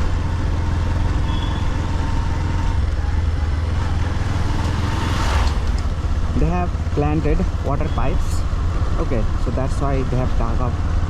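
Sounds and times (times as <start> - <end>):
motorcycle engine drone: 0.0 - 11.0
rushing road and wind noise: 0.0 - 11.0.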